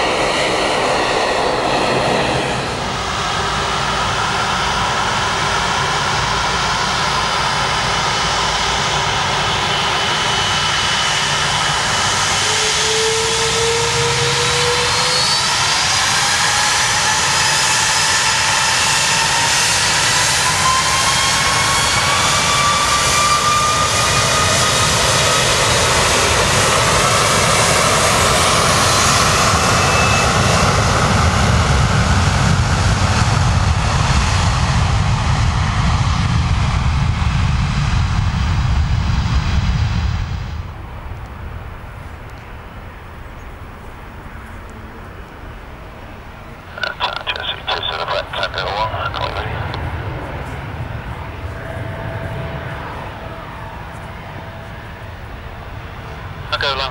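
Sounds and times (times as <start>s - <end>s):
departing airliner jet noise: 0.0s - 56.9s
jet engines spooling up: 0.0s - 56.9s.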